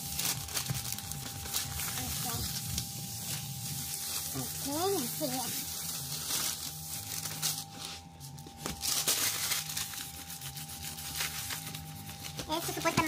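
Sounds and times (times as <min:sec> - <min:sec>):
paper backing rustling and crinkling: 0:00.0 - 0:13.0.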